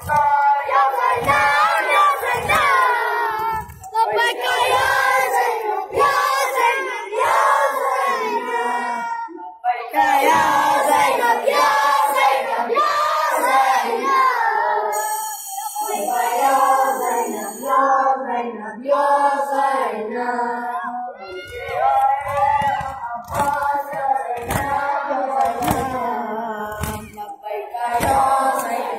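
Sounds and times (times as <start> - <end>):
boys chanting together: 0.0 - 14.9, 15.9 - 28.9.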